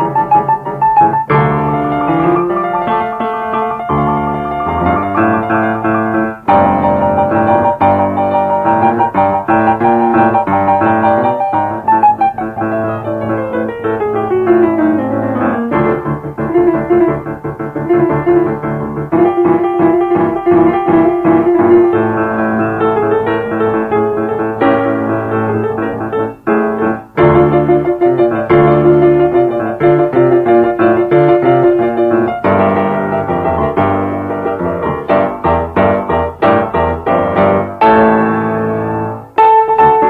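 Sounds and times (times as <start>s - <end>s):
piano-like keyboard music: 0.0s - 40.0s.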